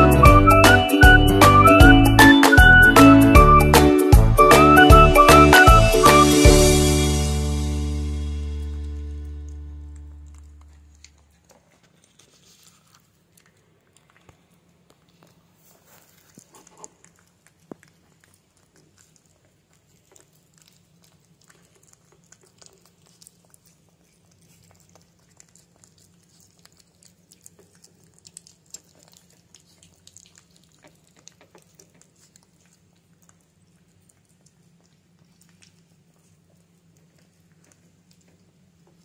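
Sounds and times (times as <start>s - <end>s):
low steady hum: 0.0s - 39.0s
puppies chewing food: 0.0s - 39.0s.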